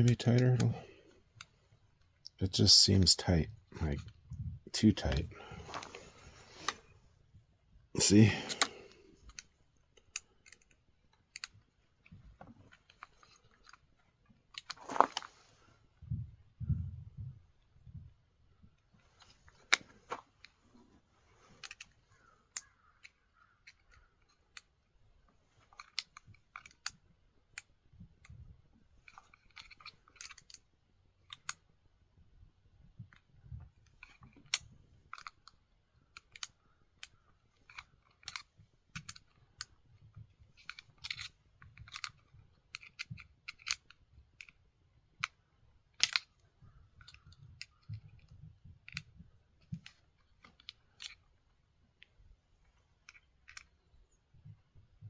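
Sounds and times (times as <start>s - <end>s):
tools and parts clicking and rattling: 0.0s - 6.9s, 8.0s - 15.6s, 17.9s - 31.7s, 32.8s - 55.0s.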